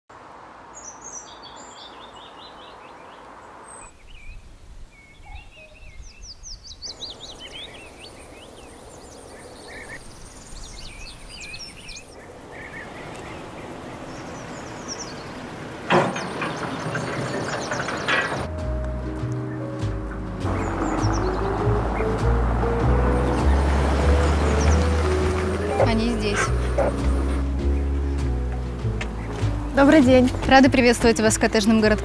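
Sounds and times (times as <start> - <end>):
steady outdoor hiss: 0.1 - 32.0
songbirds chirping: 0.2 - 32.0.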